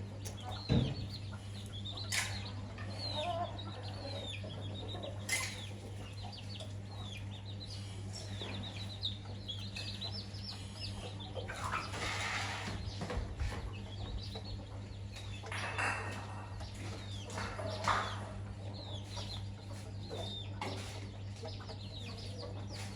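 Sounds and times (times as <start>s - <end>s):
chicks peeping: 0.0s - 22.9s
hen clucking: 0.0s - 22.9s
steady low hum: 0.0s - 22.9s.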